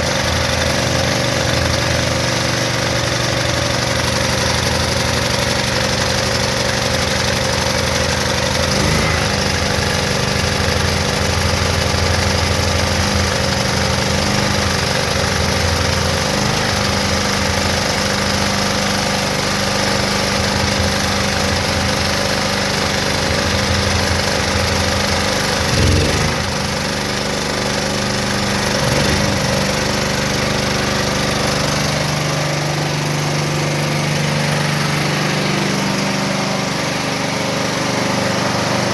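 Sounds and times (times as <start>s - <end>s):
portable generator engine running: 0.0s - 38.9s.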